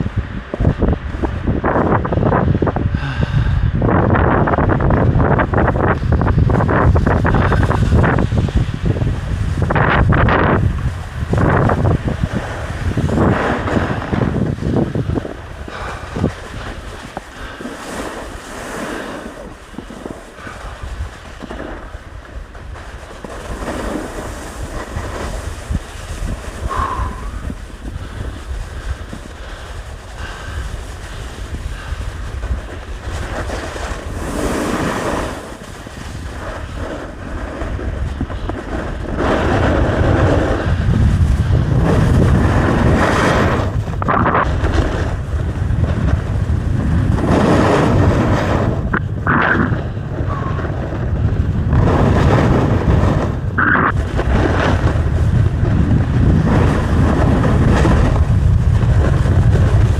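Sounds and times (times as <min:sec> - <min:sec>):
wind rushing over microphone: 0:00.0 - 0:59.9
skis scraping on icy snow: 0:04.5 - 0:59.9.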